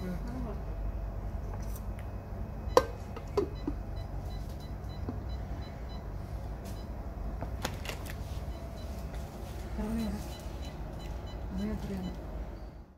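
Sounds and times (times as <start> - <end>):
low room hum: 0.0 - 12.9.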